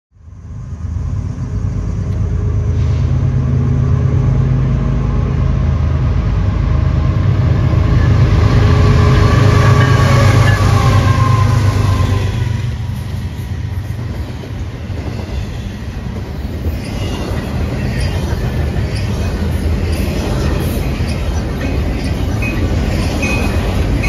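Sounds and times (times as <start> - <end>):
diesel locomotive engines droning: 0.2 - 24.0.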